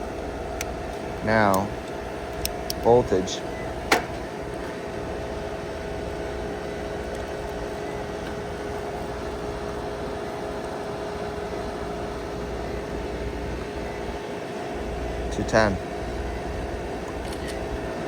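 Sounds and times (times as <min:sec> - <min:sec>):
air conditioning unit humming: 0:00.0 - 0:18.0.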